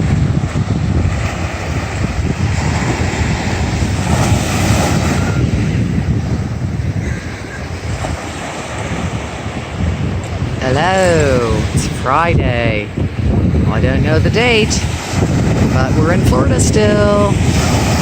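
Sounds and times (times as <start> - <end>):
ocean surf rushing: 0.0 - 18.0
wind buffeting microphone: 0.0 - 18.0.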